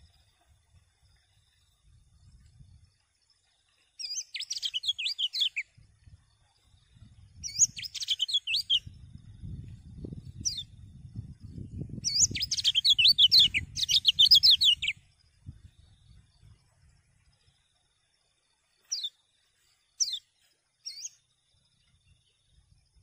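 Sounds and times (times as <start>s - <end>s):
bird twittering song: 1.0s - 23.0s.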